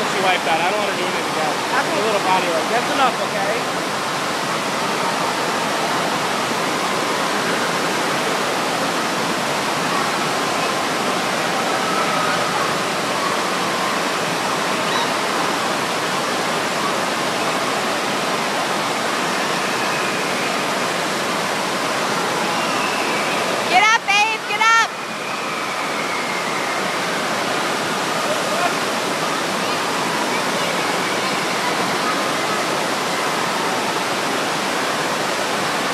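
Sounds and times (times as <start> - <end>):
water rushing: 0.0 - 35.9.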